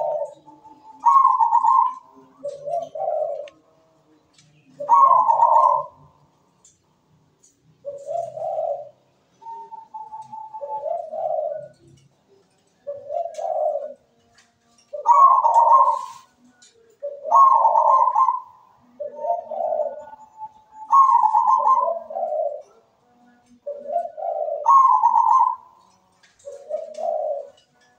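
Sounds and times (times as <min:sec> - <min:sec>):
dove cooing: 0:00.0 - 0:03.7, 0:04.6 - 0:06.3, 0:07.8 - 0:27.9.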